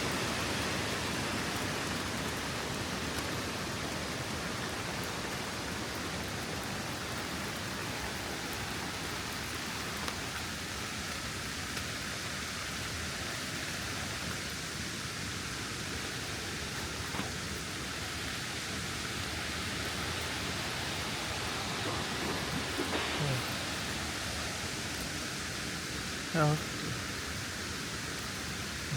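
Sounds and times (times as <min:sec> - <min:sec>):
falling water rushing: 0:00.0 - 0:28.9.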